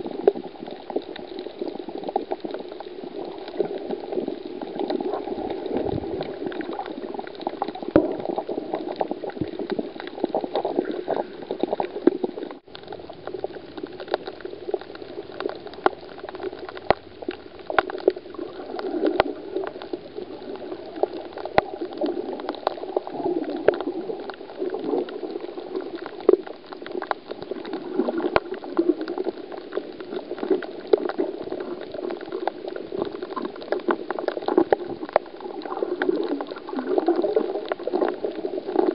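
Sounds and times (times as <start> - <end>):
muffled underwater water rushing: 0.0 - 38.9.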